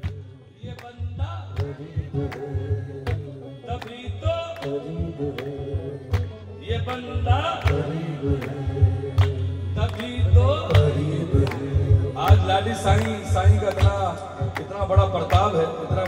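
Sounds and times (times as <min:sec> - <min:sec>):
low accompaniment: 0:00.0 - 0:16.0
sharp percussion beats: 0:00.0 - 0:16.0.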